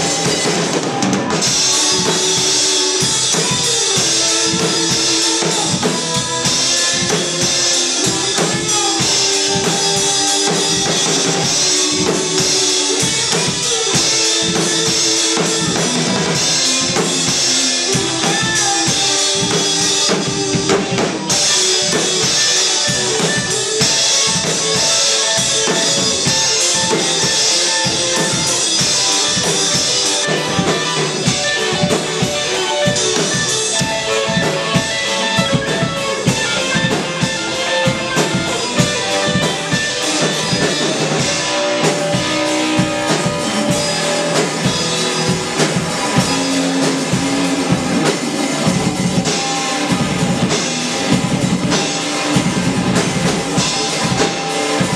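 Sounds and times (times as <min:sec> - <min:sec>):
cymbals: 0:00.0 - 0:54.9
drum kit: 0:00.0 - 0:54.9
electric guitars: 0:00.0 - 0:54.9.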